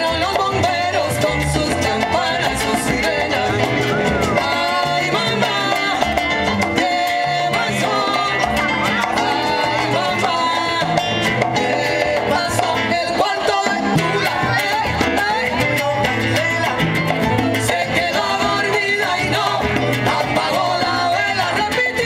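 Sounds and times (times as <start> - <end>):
salsa band playing: 0.0 - 22.0.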